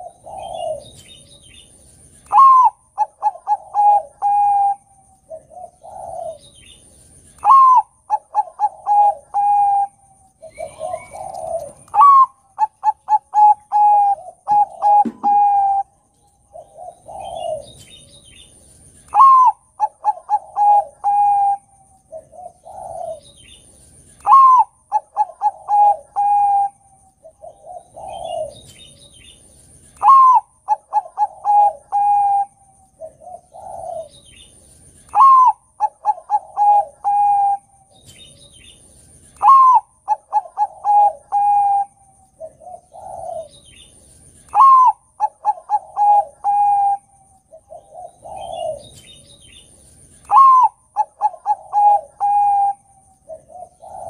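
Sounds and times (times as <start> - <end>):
dove cooing: 0.0 - 29.4, 30.0 - 54.0.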